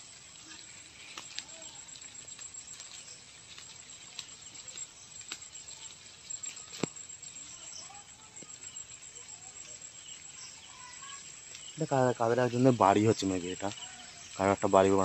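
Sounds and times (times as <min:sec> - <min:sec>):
light rain hiss: 0:00.0 - 0:15.0.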